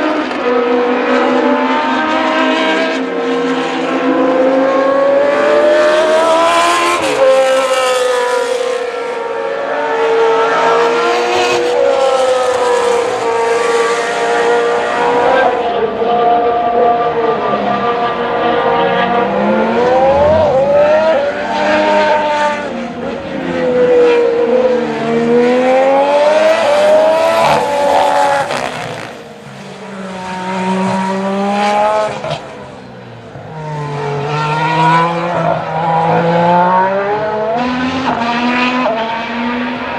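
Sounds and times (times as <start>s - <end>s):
racing car engine passing: 1.0s - 39.9s.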